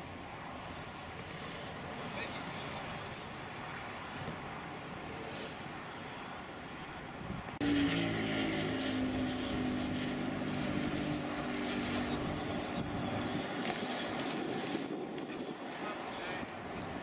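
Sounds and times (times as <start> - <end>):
outdoor noise: 0.0 - 17.0
distant engine droning: 0.1 - 17.0.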